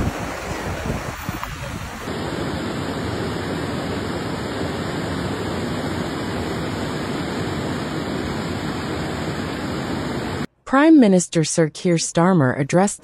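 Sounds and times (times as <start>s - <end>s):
floodwater rushing: 0.0s - 10.5s.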